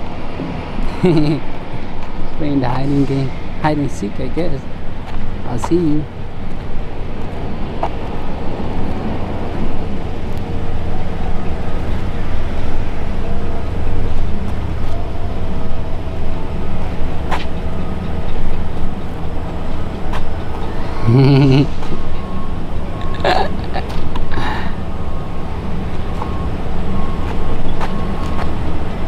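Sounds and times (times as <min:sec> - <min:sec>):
heavy machinery rumbling: 0:00.0 - 0:29.0.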